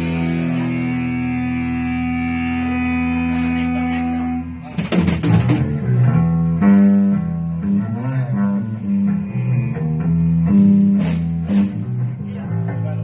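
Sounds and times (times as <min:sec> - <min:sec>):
plucked guitar notes: 0:00.0 - 0:13.0
sharp guitar strums: 0:00.0 - 0:13.0
strong bass line: 0:00.0 - 0:13.0.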